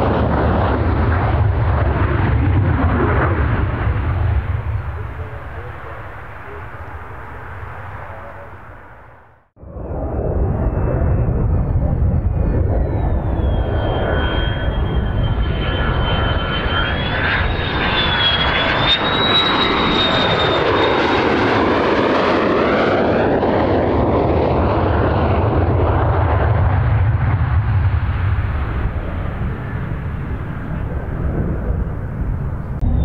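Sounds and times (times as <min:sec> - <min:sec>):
fighter jet engine passing: 0:00.0 - 0:33.0.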